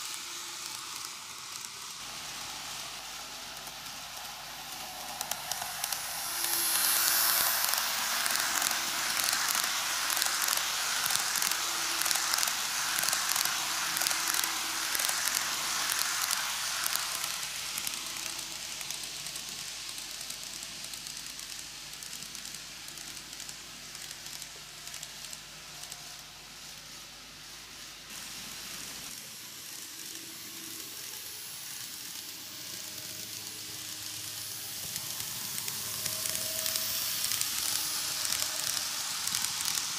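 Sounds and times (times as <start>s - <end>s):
model train wheels rattling on track: 0.0s - 39.9s.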